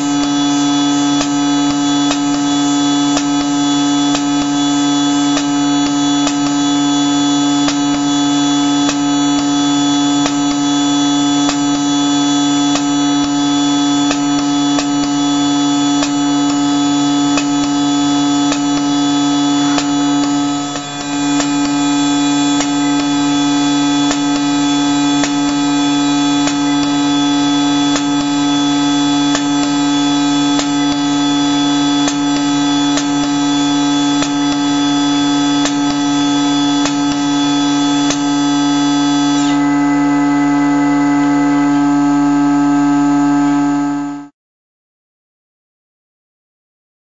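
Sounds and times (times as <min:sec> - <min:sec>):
engraving machine whining: 0:00.0 - 0:44.3.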